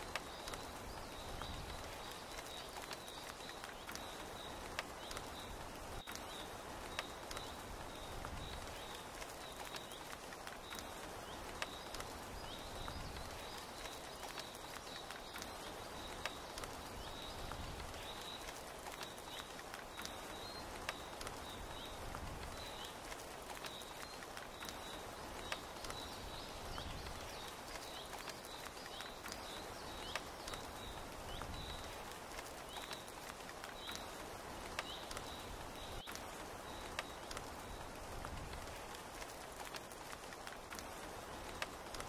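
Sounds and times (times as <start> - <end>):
rain on tent canvas: 0.0 - 42.0.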